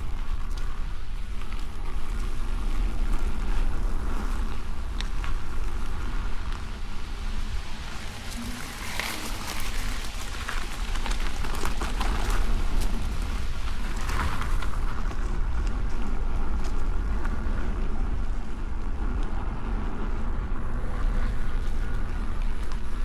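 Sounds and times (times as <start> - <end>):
tyre crackling over debris: 0.0 - 23.0
wind on microphone: 0.0 - 23.0.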